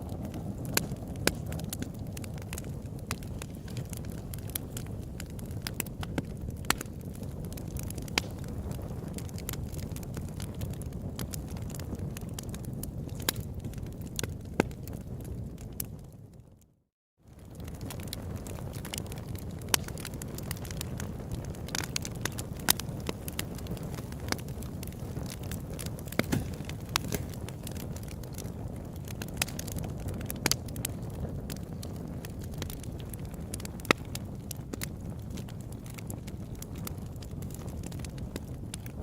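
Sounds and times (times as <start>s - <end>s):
campfire crackling and popping: 0.0s - 16.6s, 17.3s - 39.0s.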